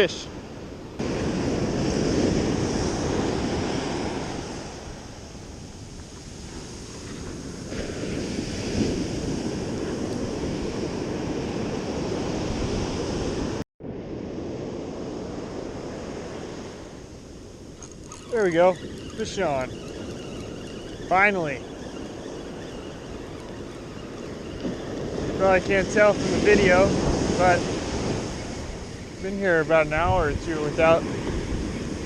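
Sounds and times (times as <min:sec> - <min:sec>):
ocean surf washing onto beach: 0:00.0 - 0:32.0
wind on microphone: 0:00.3 - 0:32.0.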